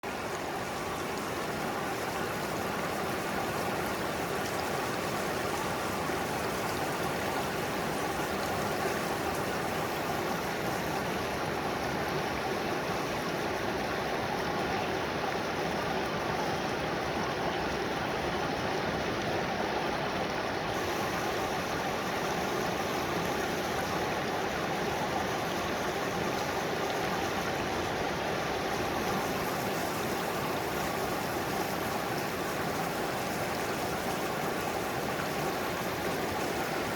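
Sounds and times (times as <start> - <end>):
stream flowing over rocks: 0.0 - 36.9.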